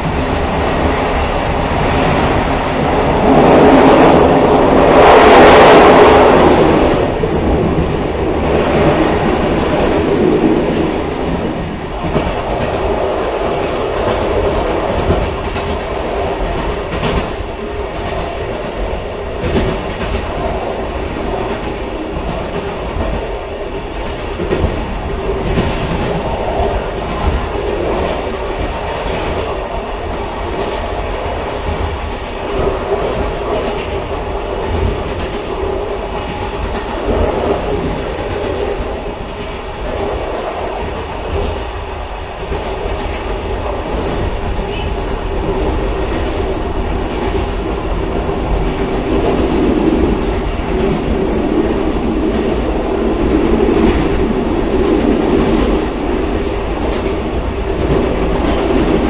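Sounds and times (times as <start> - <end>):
railcar rumbling on rails: 0.0 - 59.0
wheels clacking over rail joints: 0.0 - 59.0.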